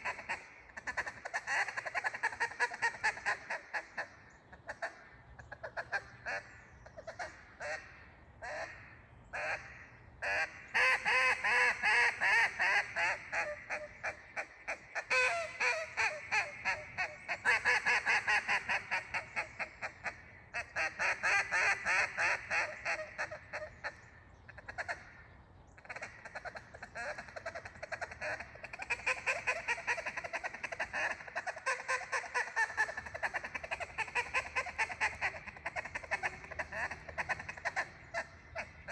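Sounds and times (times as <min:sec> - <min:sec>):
duck call quacking: 0:00.0 - 0:04.1, 0:04.7 - 0:24.0, 0:24.6 - 0:38.9.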